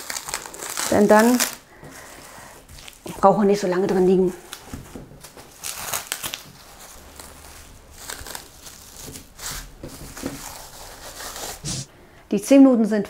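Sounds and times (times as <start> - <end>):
cling film crinkling: 0.0 - 11.7.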